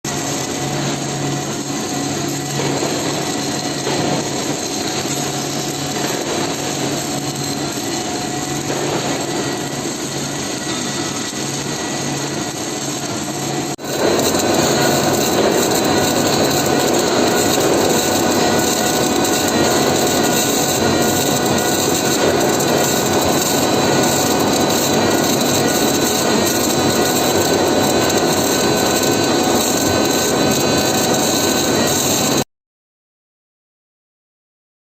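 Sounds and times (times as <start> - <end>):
welding machine hum and hiss: 0.1 - 32.4.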